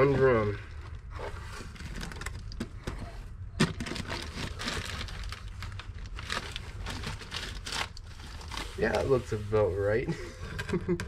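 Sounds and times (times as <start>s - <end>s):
cardboard and plastic rustling: 0.0s - 10.9s.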